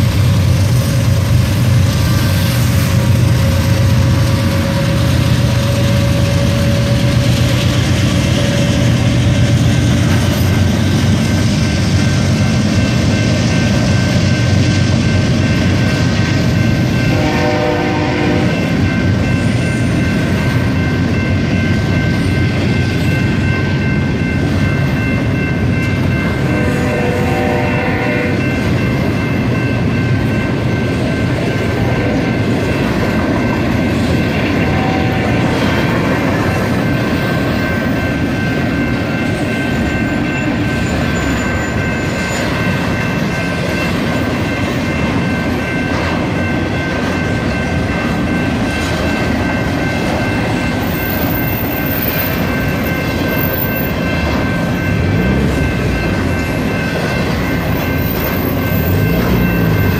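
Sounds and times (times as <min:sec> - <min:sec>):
freight train rumbling and rattling: 0:00.0 - 0:59.9
high steady tones: 0:00.5 - 0:59.9.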